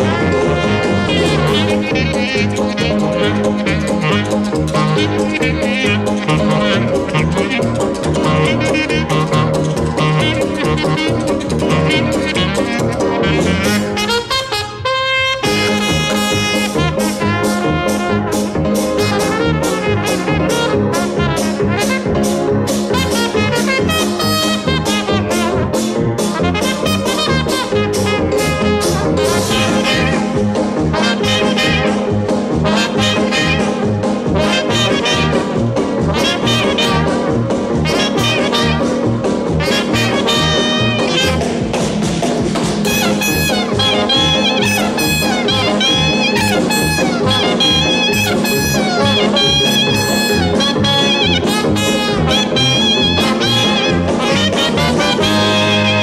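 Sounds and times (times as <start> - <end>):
jazz music with brass: 0.0 - 56.0.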